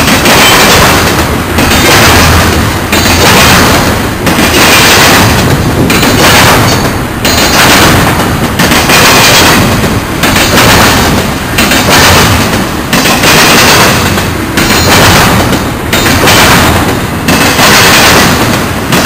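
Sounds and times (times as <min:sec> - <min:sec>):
train wheels clattering over crossing: 0:00.0 - 0:19.0.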